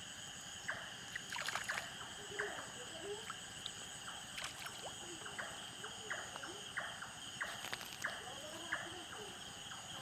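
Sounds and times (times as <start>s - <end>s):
frogs croaking: 0.0s - 10.0s
insects droning: 0.0s - 10.0s.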